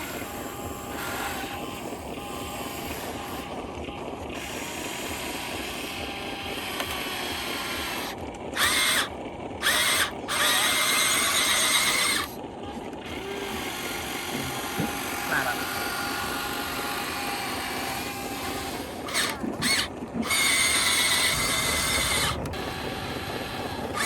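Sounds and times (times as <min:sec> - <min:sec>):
small electric motors whirring: 0:00.0 - 0:24.0
steady background hum: 0:00.0 - 0:24.0.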